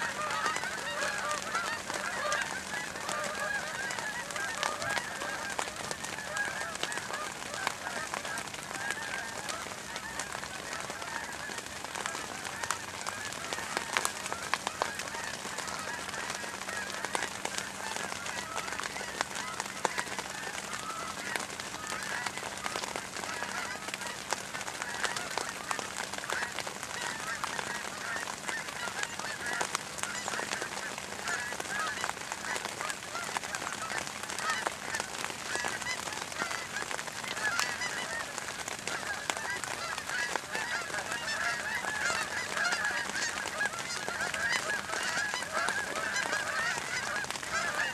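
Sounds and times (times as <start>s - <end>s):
geese honking: 0.0s - 47.9s.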